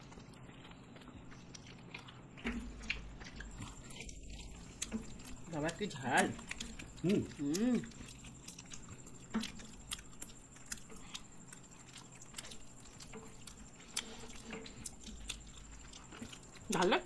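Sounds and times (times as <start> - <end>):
soft chewing and mouth noises: 0.0 - 17.0.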